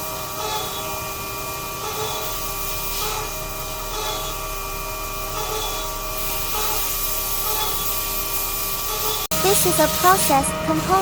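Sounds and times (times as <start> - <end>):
machine whining while cutting metal: 0.0 - 11.0.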